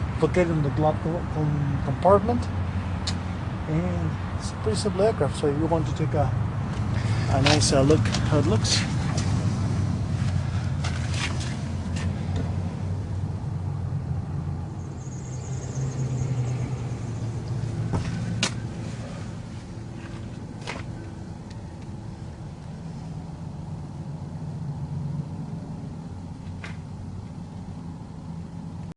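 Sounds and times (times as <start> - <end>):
low machinery rumble: 0.0 - 28.9.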